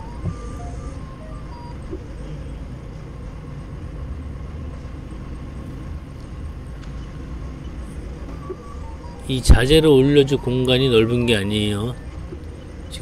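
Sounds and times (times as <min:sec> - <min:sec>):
forklift engine rumbling: 0:00.0 - 0:13.0.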